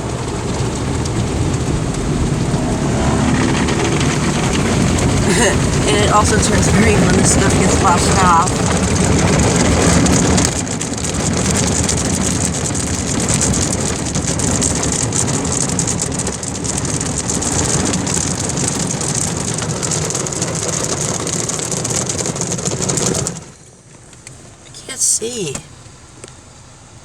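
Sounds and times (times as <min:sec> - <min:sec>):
car wash water jets spraying: 0:00.0 - 0:27.0.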